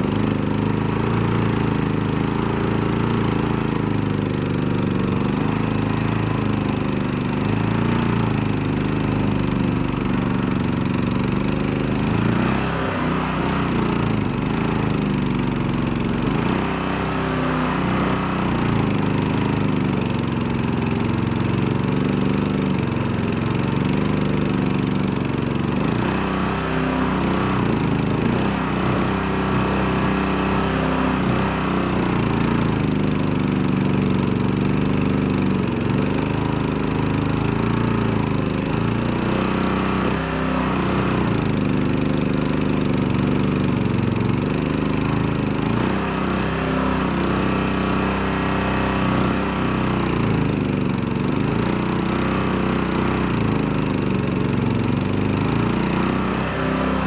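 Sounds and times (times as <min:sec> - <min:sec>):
small gasoline engine running: 0:00.0 - 0:57.0.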